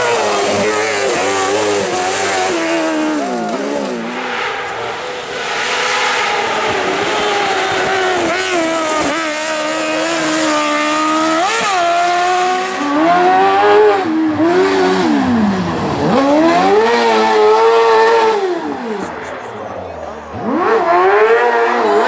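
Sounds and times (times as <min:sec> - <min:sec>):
buggy engine revving hard: 0:00.0 - 0:22.0.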